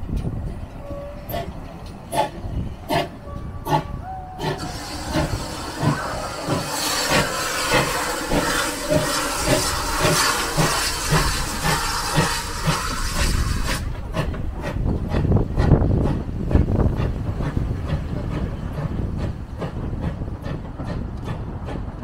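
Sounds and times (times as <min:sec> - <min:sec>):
train knocking: 0:00.0 - 0:22.0
steam locomotive chuffing: 0:00.1 - 0:22.0
steam hissing: 0:02.1 - 0:21.8.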